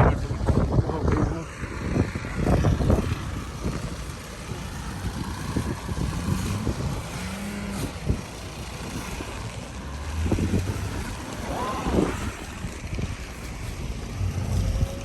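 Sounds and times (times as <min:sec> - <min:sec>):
car engine revving: 0:01.4 - 0:15.0.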